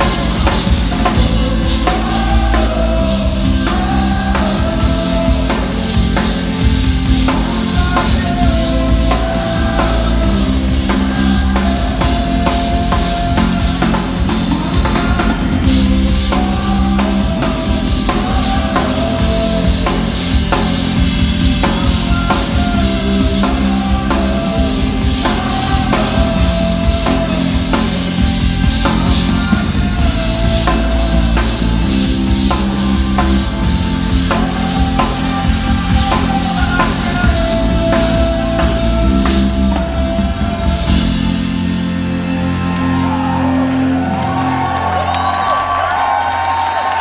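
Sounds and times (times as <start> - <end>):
man singing: 0.0 - 42.3
drum kit: 0.0 - 47.0
electric guitar: 0.0 - 47.0.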